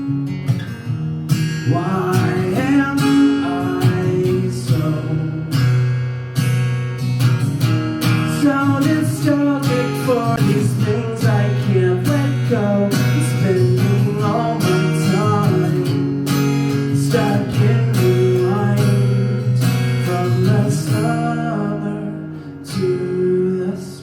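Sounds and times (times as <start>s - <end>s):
live soft rock band: 0.0s - 24.0s
strummed acoustic guitar: 0.0s - 24.0s.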